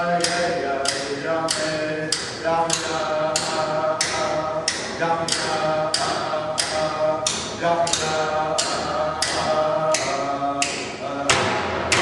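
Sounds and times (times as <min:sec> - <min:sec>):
frame drums beating: 0:00.0 - 0:10.2, 0:11.2 - 0:12.0
voices singing a chant: 0:00.0 - 0:12.0.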